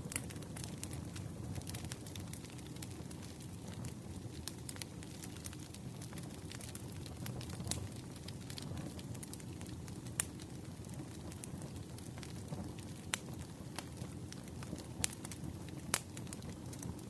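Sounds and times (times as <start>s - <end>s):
campfire crackling: 0.0s - 17.0s
fire pops and snaps: 0.0s - 17.0s.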